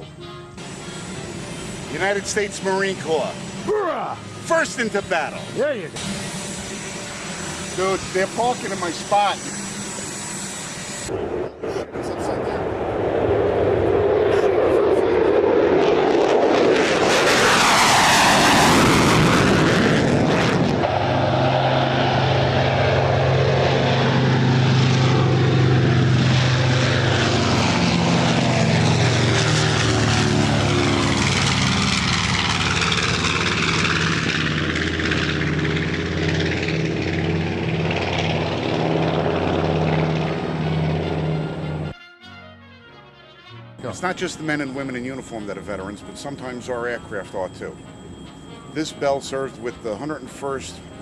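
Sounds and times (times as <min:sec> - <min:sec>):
aircraft flying past: 0:00.0 - 0:42.0, 0:43.0 - 0:51.0
propeller aircraft engine drone: 0:00.0 - 0:51.0.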